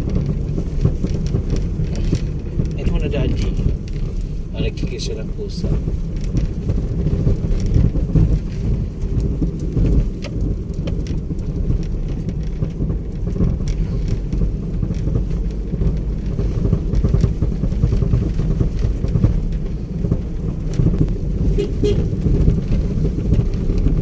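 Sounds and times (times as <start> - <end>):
vehicle rumbling on the move: 0.0 - 24.0.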